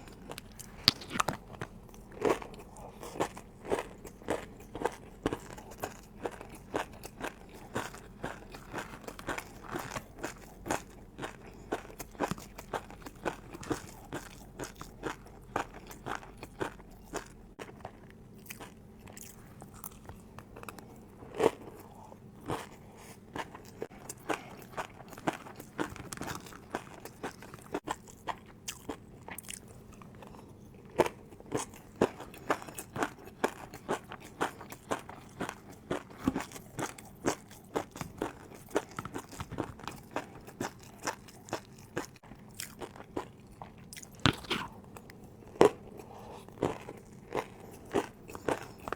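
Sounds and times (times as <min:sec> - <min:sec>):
crunchy chewing of noodles: 0:00.0 - 0:48.9.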